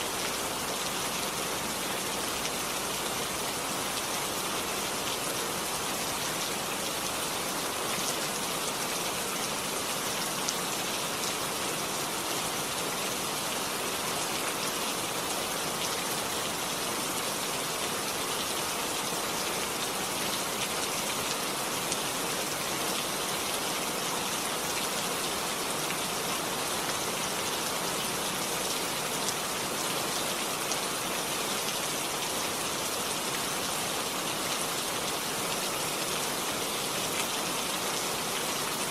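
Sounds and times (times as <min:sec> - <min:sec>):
rain hissing and pattering: 0:00.0 - 0:38.9.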